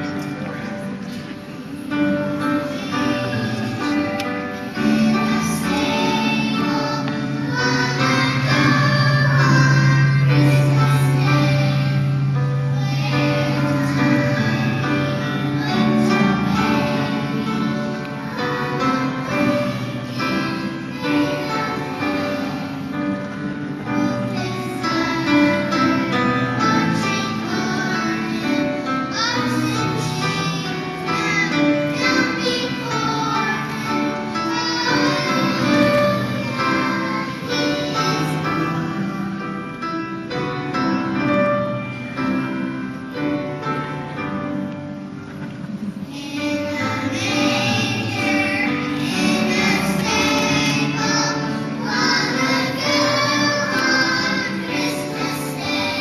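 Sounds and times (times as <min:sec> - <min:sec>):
background music: 0:00.0 - 0:56.0
children's choir singing: 0:00.0 - 0:56.0.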